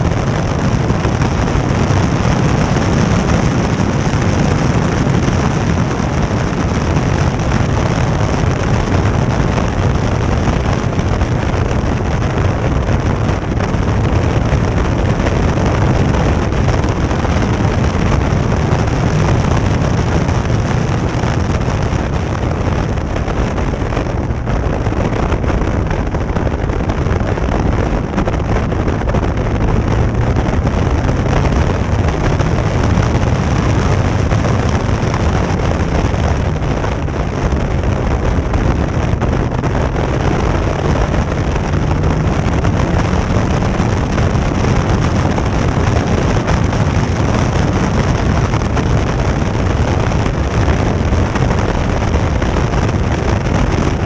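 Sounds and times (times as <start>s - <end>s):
car engine under load: 0.0s - 54.0s
wind buffeting microphone: 0.0s - 54.0s.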